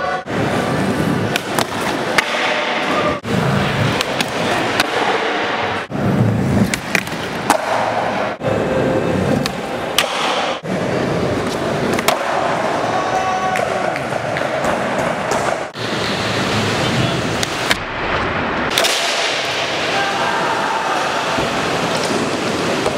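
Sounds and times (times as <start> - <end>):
skateboard wheels rolling on concrete: 0.3 - 22.9.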